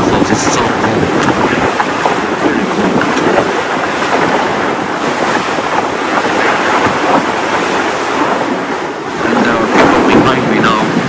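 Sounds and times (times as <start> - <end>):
water rushing along boat hull: 0.0 - 11.0
wind buffeting microphone: 0.0 - 11.0.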